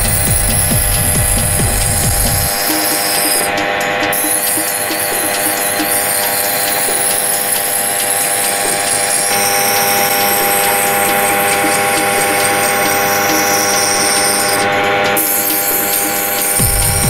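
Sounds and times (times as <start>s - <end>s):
grinding wheel grinding steel blade: 0.0s - 17.0s.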